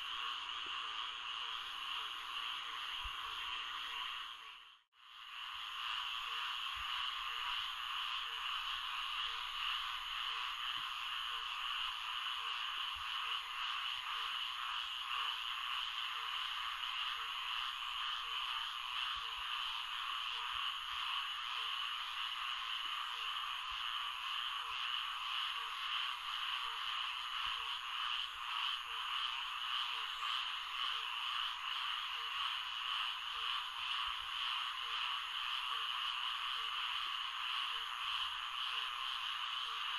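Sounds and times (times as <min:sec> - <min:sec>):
low repeating frog call: 0:00.0 - 0:39.9
frogs calling in chorus: 0:05.9 - 0:39.9.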